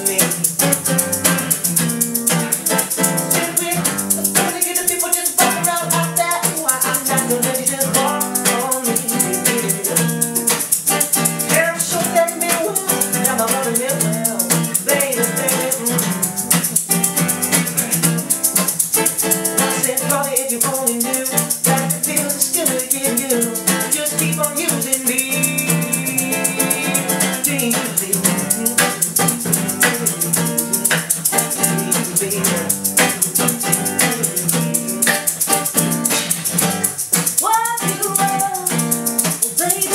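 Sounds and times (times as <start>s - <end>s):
acoustic guitar playing: 0.0s - 39.9s
shaker rhythm: 0.0s - 39.9s.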